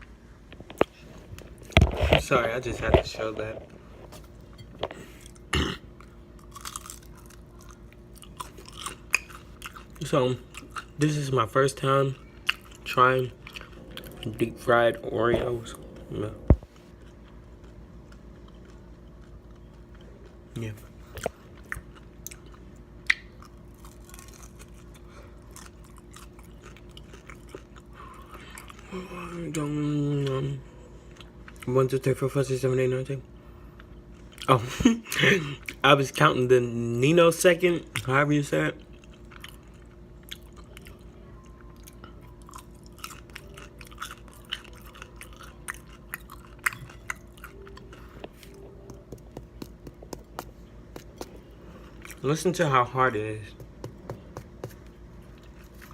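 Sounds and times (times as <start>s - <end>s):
low electrical hum: 0.0s - 55.9s
person chewing crunchy food: 0.6s - 29.4s, 37.9s - 55.9s.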